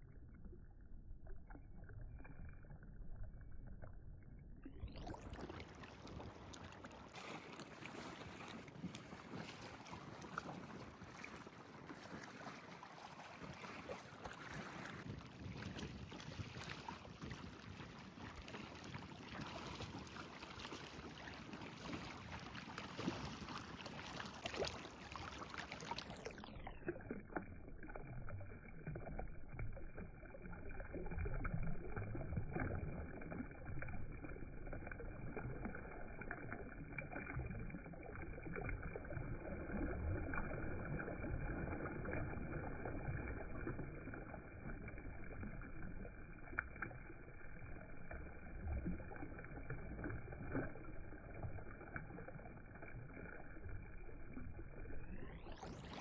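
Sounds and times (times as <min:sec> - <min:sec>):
lake water lapping: 0:04.8 - 0:56.0.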